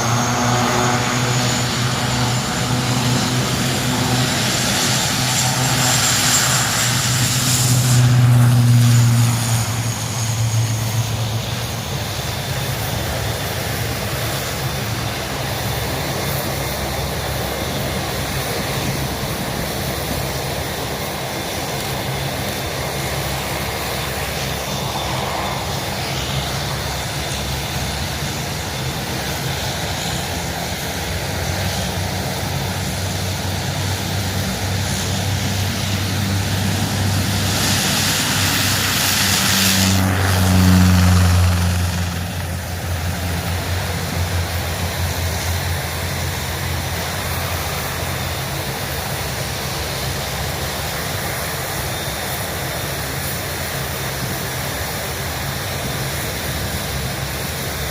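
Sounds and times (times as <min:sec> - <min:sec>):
aircraft flying past: 0:00.0 - 0:57.9.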